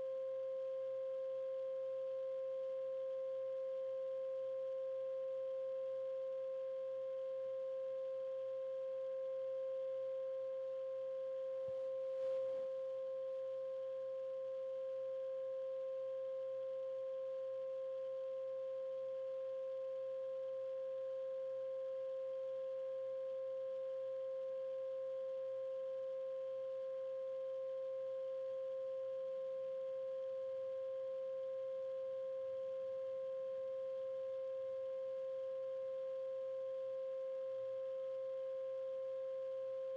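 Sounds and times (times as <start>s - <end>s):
steady sine tone: 0.0s - 39.9s.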